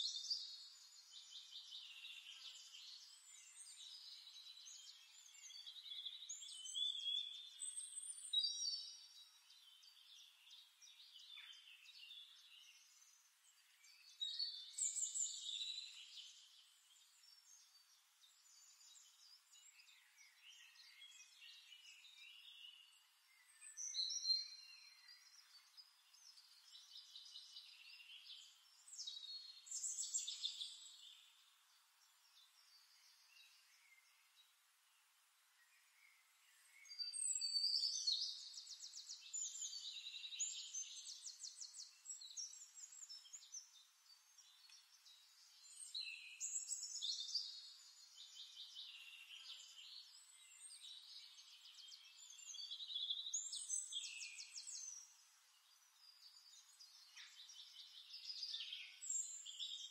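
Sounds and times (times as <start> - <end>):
songbird singing in trills: 0.0 - 59.9.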